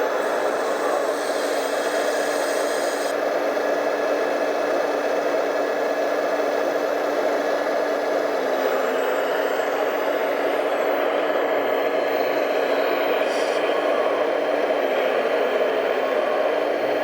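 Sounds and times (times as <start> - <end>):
constant low hum: 0.0 - 3.2, 4.0 - 17.0.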